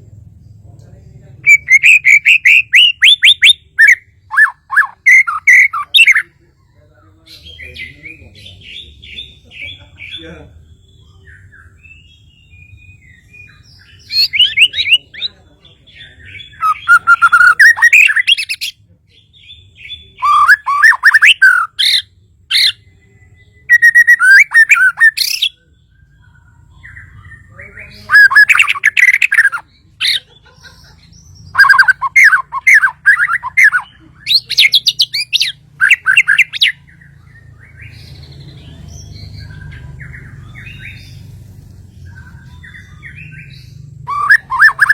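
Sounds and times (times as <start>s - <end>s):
bird singing chattering trills: 0.0s - 44.9s.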